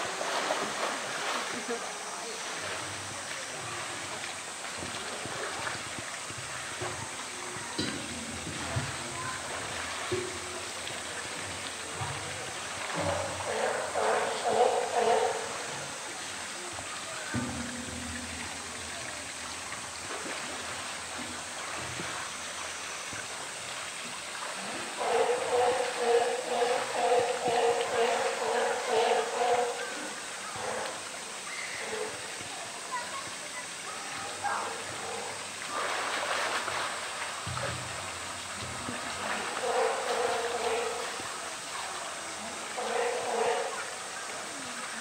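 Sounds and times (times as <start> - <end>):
animal splashing in water: 0.0 - 32.4, 34.1 - 45.0
water rushing: 0.0 - 45.0.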